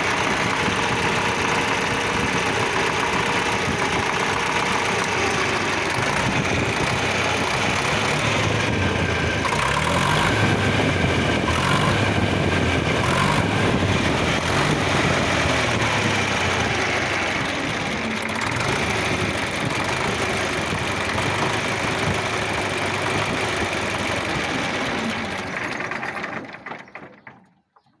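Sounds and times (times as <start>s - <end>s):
tractor diesel engine knocking: 0.0s - 27.5s.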